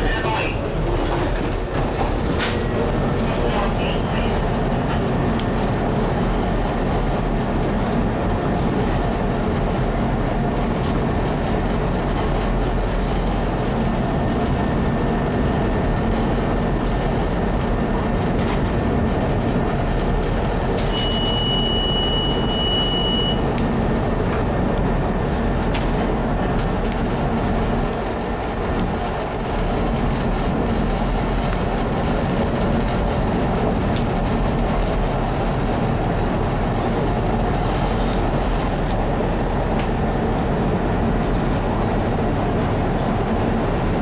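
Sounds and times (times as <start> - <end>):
train rumbling on track: 0.0 - 44.0.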